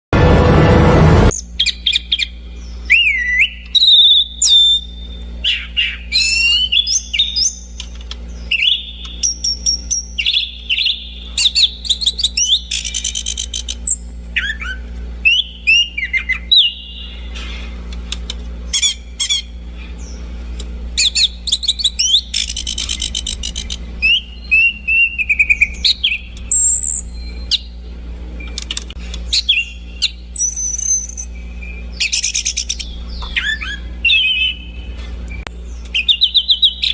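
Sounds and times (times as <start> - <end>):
low hum: 0.1 - 36.9.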